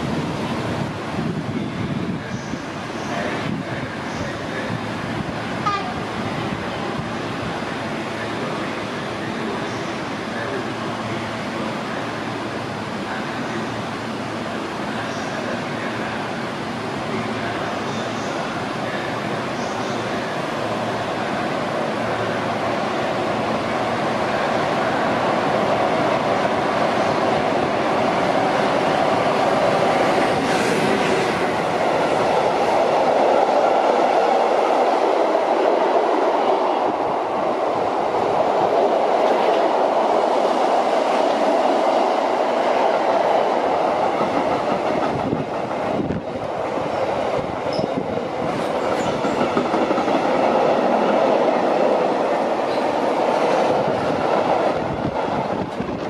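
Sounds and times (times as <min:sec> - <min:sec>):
train wheels on track: 0:00.0 - 0:56.0.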